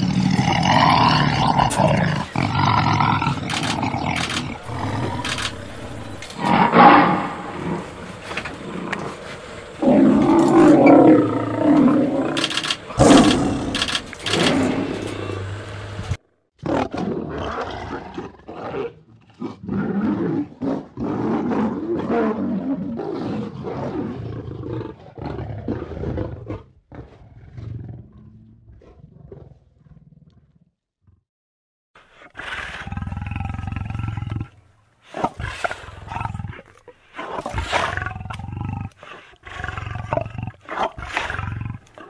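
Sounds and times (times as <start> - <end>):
lions roaring: 0.0 - 29.5, 37.2 - 42.0.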